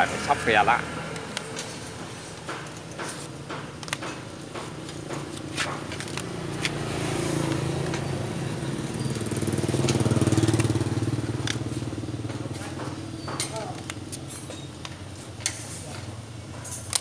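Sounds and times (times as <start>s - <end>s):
motor engine hum: 0.0s - 15.1s.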